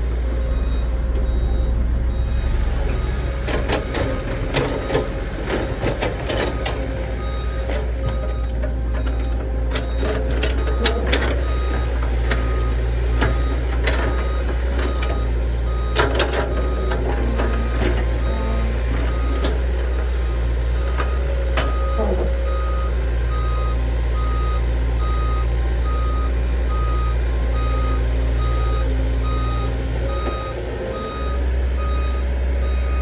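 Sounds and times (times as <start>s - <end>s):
heavy diesel machinery running: 0.0s - 33.0s
faint broken beeping tone: 0.4s - 3.0s, 3.6s - 33.0s.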